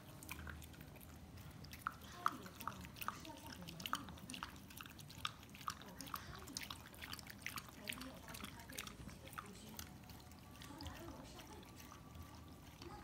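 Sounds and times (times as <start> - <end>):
dog lapping wet food: 0.0 - 13.0.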